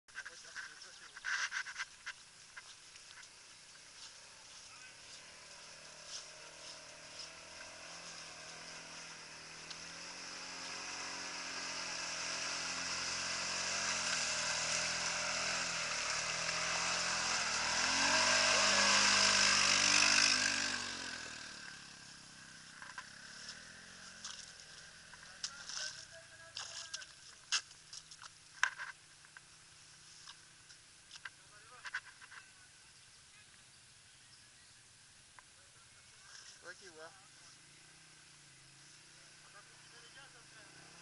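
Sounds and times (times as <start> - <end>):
quad bike engines passing: 0.2 - 41.0.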